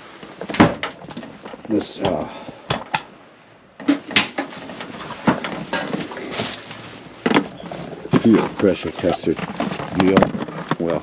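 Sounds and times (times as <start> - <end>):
tools and cases clattering: 0.2 - 3.0, 3.8 - 11.0.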